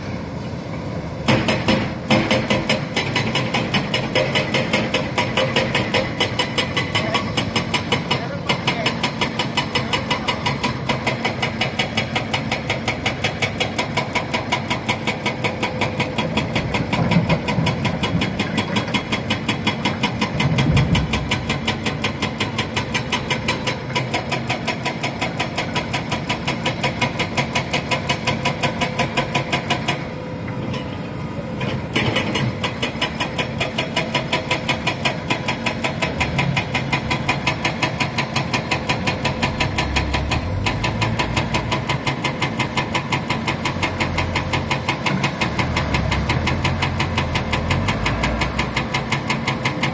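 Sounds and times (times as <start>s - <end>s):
heavy diesel engine running: 5.0s - 49.9s.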